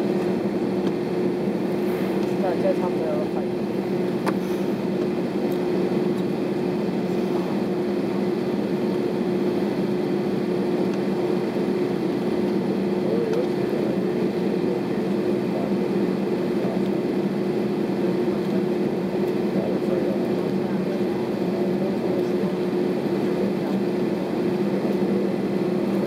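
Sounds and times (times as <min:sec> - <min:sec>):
aircraft engines idling: 0:00.0 - 0:26.0.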